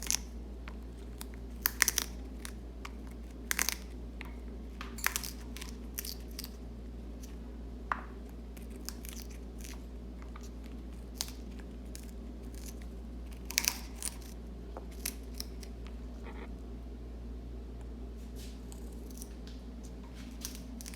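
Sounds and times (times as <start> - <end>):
parrot crunching cabbage leaf: 0.0 - 7.5, 8.2 - 16.5, 18.3 - 20.9
low steady hum: 0.0 - 20.9.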